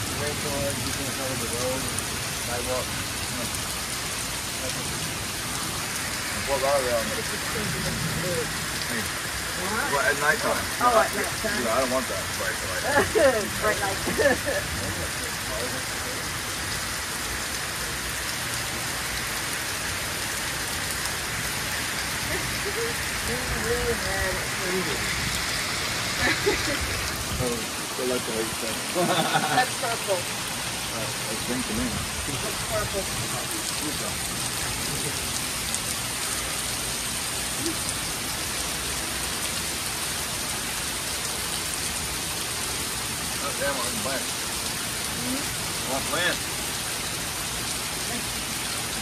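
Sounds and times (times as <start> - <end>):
heavy rain on pavement and trees: 0.0 - 49.0.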